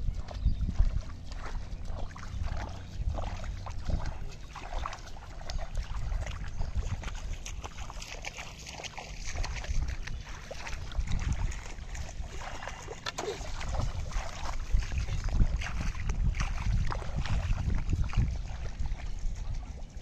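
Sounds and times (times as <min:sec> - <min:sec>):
feet splashing in water: 0:00.0 - 0:20.0
wind rumble on microphone: 0:00.0 - 0:20.0.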